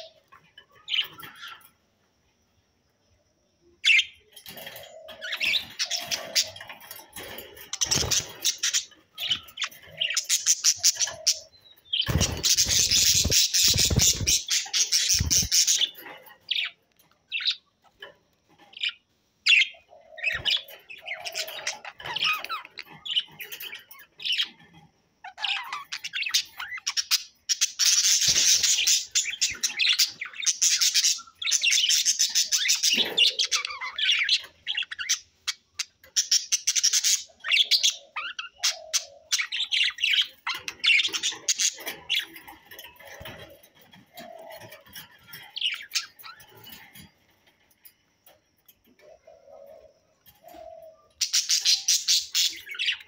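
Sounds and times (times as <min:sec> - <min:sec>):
budgerigars chirping and chattering: 0:03.8 - 0:53.0.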